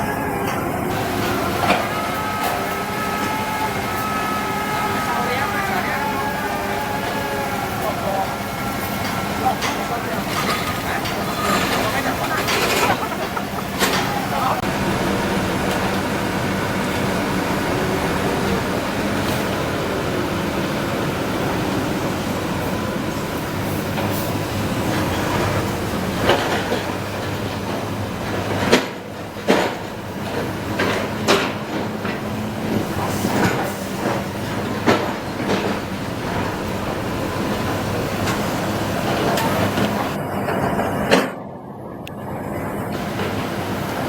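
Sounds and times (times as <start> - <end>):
diesel engine running: 0.0 - 40.8, 42.7 - 44.0.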